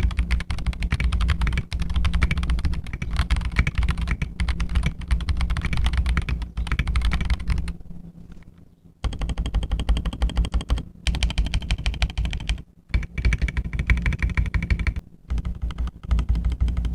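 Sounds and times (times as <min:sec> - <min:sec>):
deep thocky keyboard typing: 0:00.0 - 0:07.8, 0:09.0 - 0:16.9.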